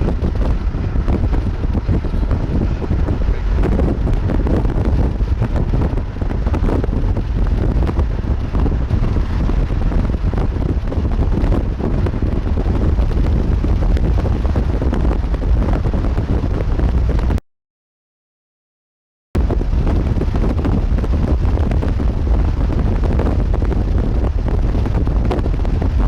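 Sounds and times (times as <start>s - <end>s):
wind buffeting microphone: 0.0s - 17.4s, 19.4s - 26.0s.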